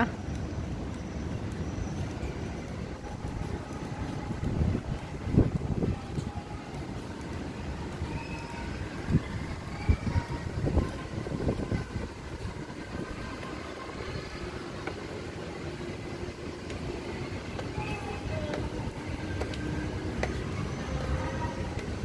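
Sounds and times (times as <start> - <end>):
faint distant voices: 2.2 - 22.0.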